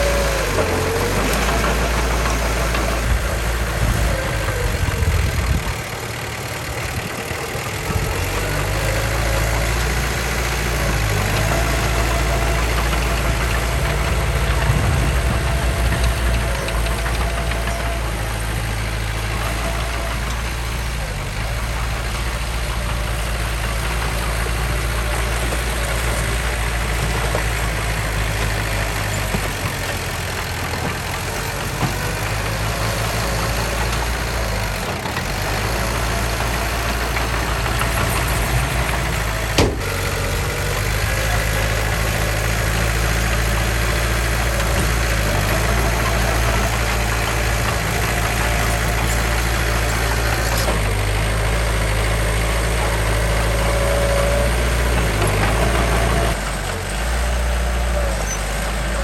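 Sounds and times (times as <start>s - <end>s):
diesel engine rumbling: 0.0s - 59.0s.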